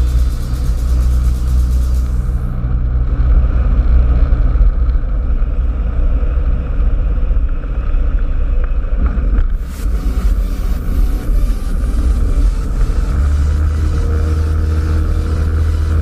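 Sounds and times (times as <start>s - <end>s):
aircraft engine droning: 0.0s - 4.4s, 5.0s - 16.0s.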